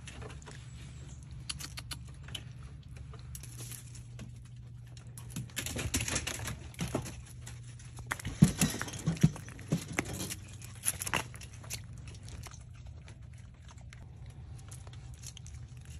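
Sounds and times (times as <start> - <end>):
animals crunching bones: 0.0 - 15.9
low steady hum: 0.0 - 15.9.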